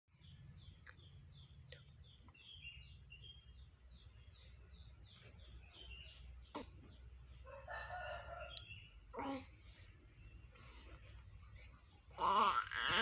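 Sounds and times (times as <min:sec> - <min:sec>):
faint bird chirping: 0:00.1 - 0:13.0.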